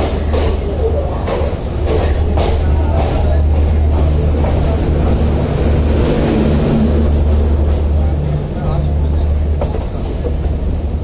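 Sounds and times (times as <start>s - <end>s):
train coach rumbling: 0.0s - 11.0s.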